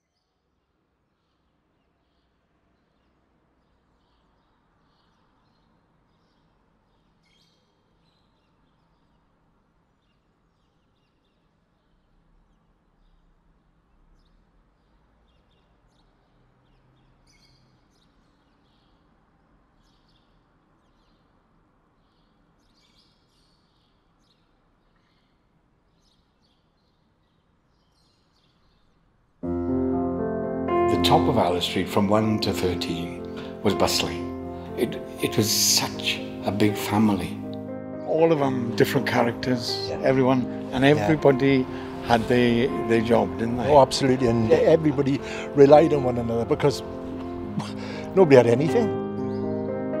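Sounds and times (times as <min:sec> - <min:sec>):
small birds chirping: 0:00.0 - 0:29.9, 0:30.9 - 0:50.0
low steady background noise: 0:00.0 - 0:48.9.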